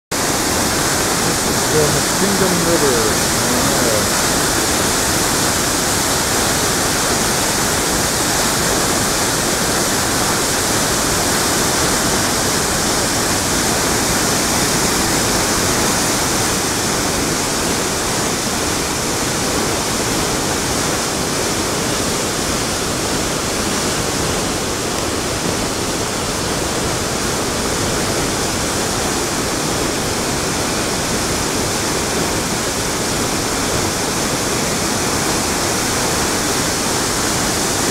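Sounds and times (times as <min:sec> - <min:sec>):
whitewater rushing over a dam: 0:00.2 - 0:37.9.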